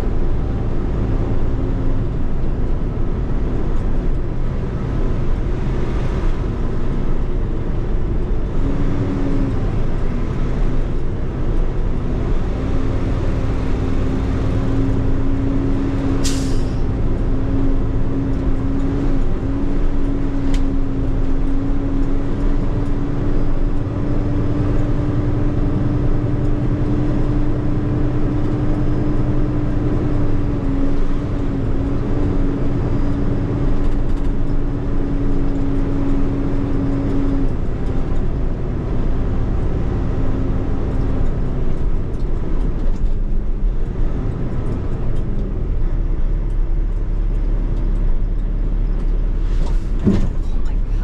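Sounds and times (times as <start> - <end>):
diesel truck engine rumble: 0.0 - 51.0.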